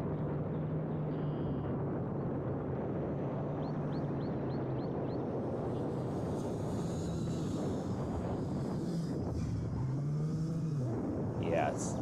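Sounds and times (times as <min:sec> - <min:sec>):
drone motors and propellers humming: 0:00.0 - 0:12.0
wind noise: 0:00.0 - 0:12.0.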